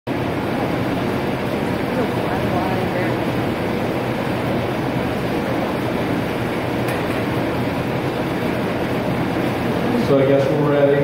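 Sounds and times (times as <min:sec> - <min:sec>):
foundry machinery roar: 0:00.1 - 0:11.0.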